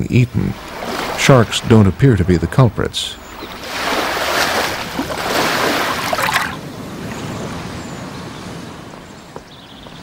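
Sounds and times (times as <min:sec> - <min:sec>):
surf washing onto beach: 0:00.4 - 0:09.0.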